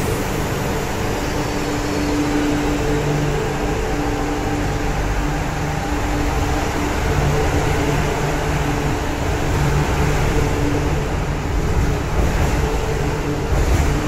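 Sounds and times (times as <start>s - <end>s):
traction motors humming: 0.0s - 14.0s
train wheels rumbling on track: 0.0s - 14.0s.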